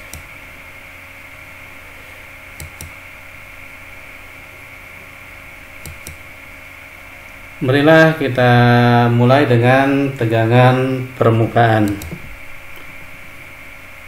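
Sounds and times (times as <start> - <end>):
microphone hiss and hum: 0.0 - 14.0.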